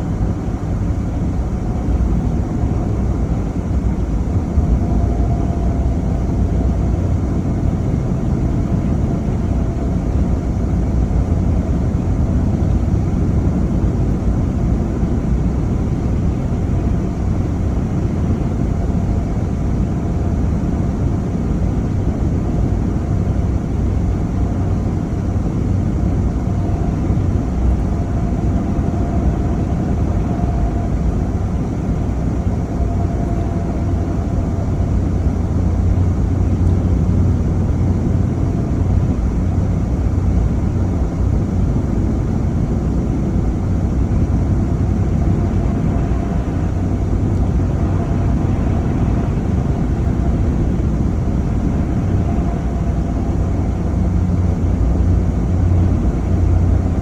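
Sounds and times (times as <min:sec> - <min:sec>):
car engine and tyre rumble: 0:00.0 - 0:57.0
faint steady whine: 0:00.0 - 0:57.0.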